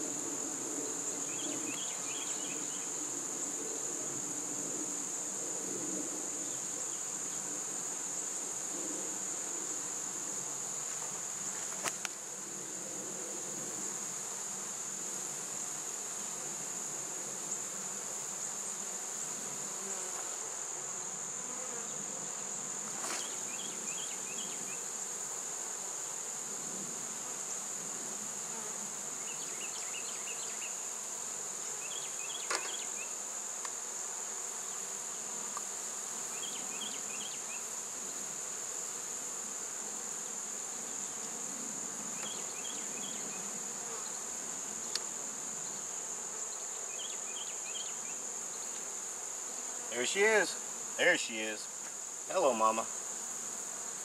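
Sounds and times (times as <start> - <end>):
bees buzzing: 6.0 - 54.0.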